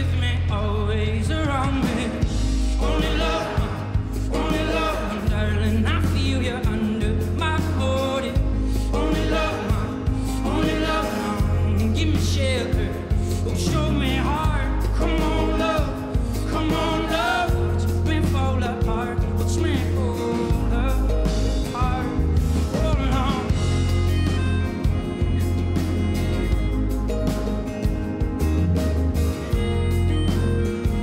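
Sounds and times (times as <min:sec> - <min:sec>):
man singing: 0:00.0 - 0:26.0
acoustic guitar: 0:00.0 - 0:31.0
deep bass line: 0:00.0 - 0:31.0
drums: 0:00.0 - 0:31.0.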